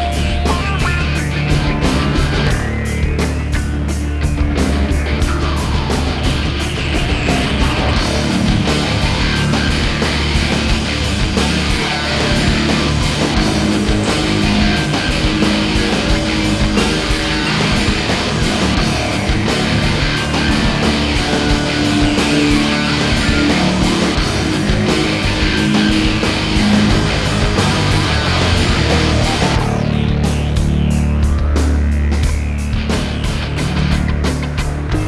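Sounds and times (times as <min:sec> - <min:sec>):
distorted electric guitar: 0:00.0 - 0:35.0
drums: 0:00.0 - 0:35.0.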